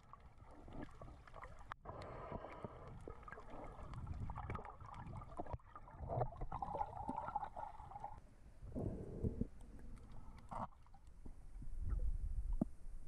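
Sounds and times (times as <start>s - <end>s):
small underwater clicks: 0.0s - 7.6s, 9.4s - 12.8s
underwater water noise: 0.0s - 13.0s.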